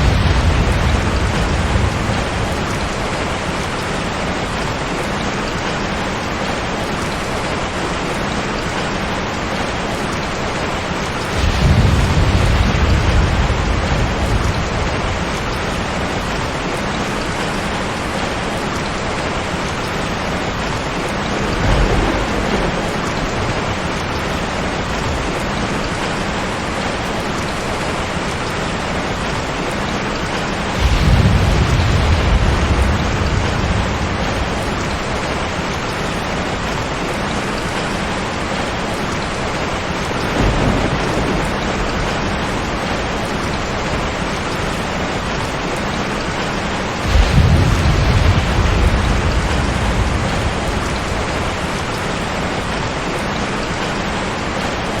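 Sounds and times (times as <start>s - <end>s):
thunder rumbling: 0.0s - 54.9s
heavy rain: 0.0s - 55.0s.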